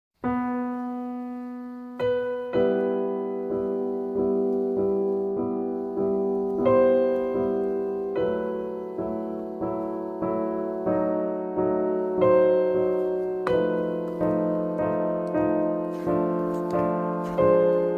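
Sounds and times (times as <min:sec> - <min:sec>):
soft piano music: 0:00.2 - 0:17.9.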